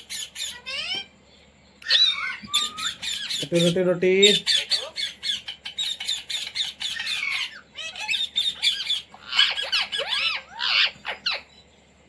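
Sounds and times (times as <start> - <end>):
parrot squawks: 0.0 - 1.1, 1.8 - 11.5
parrot chattering: 0.0 - 1.2, 1.8 - 11.5.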